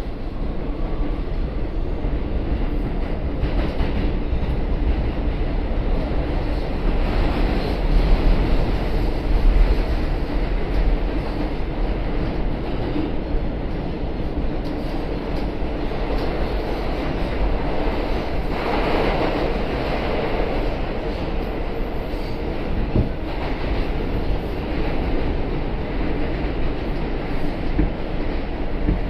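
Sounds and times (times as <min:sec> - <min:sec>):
subway train wheels rumbling on rails: 0:00.0 - 0:29.0.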